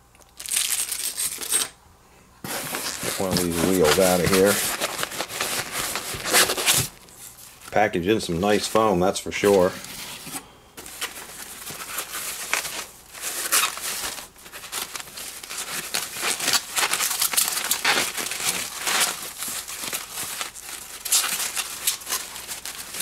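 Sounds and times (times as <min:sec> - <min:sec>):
foam packaging crinkling: 0:00.3 - 0:01.7, 0:02.4 - 0:23.0.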